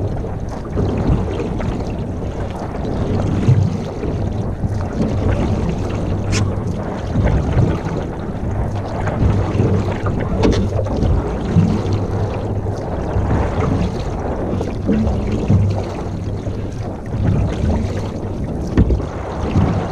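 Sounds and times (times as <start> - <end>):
water around canoe: 0.0 - 19.9
wind rumbling on microphone: 0.0 - 19.9.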